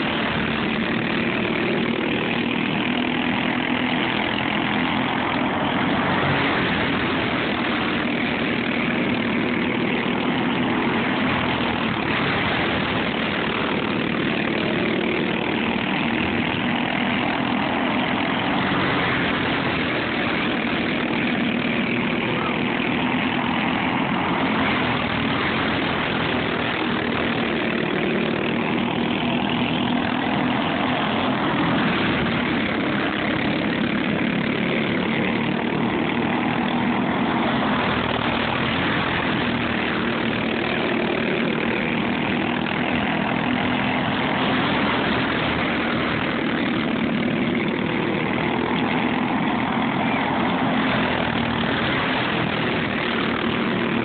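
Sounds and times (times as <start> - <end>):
go-kart engines revving: 0.0 - 54.0.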